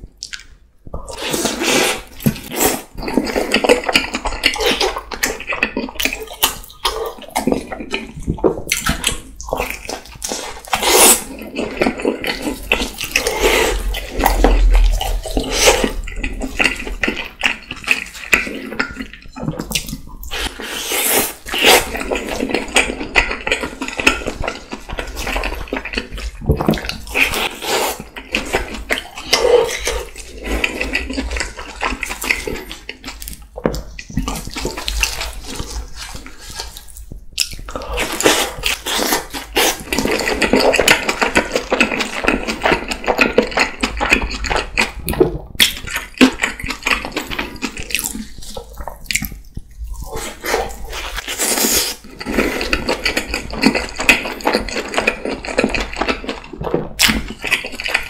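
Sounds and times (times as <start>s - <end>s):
wet chewing and lip-smacking: 0.0s - 58.0s.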